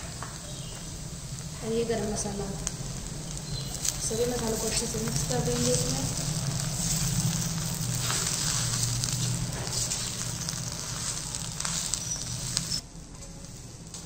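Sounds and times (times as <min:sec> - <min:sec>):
food sizzling in oil: 0:00.0 - 0:12.8.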